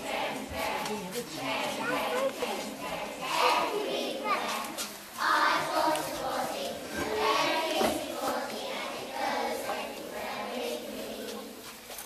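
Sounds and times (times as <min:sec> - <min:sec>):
young children singing: 0:00.0 - 0:11.9.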